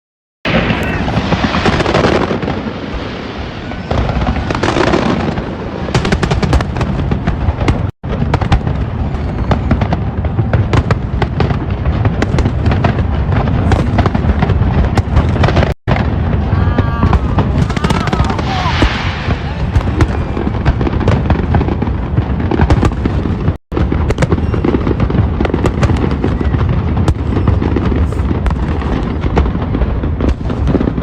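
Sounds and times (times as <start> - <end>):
fireworks crackling and banging: 0.5 - 31.0.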